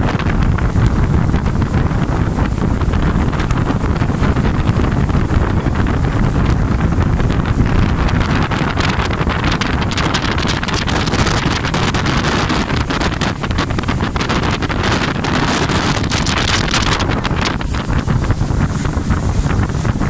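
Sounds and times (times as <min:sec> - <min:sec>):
boat motor and wake rushing: 0:00.0 - 0:20.0
wind rushing over microphone: 0:00.0 - 0:20.0.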